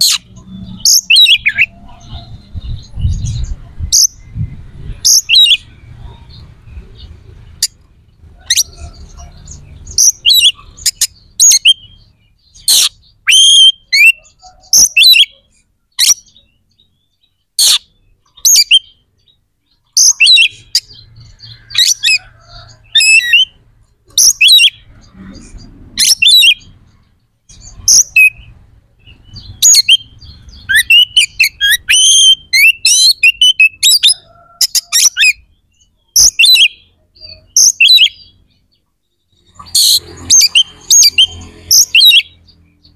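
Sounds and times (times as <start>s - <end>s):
bird singing whistled notes: 0.0s - 7.8s, 8.4s - 22.1s, 22.7s - 24.9s, 27.5s - 42.9s.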